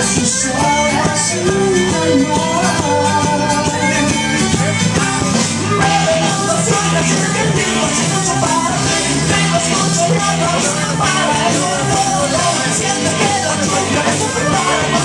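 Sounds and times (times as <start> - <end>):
loud dance music with singing: 0.0 - 15.0.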